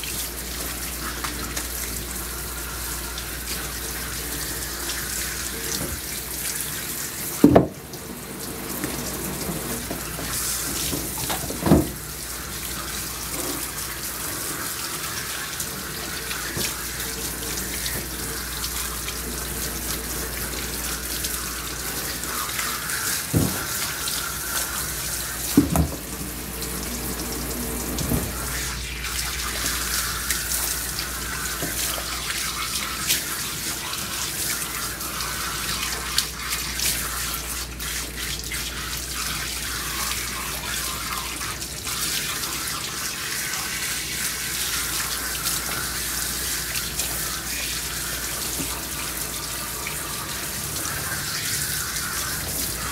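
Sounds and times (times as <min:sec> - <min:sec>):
water splashing into tub: 0:00.0 - 0:52.9
water spraying from hose: 0:00.0 - 0:52.9.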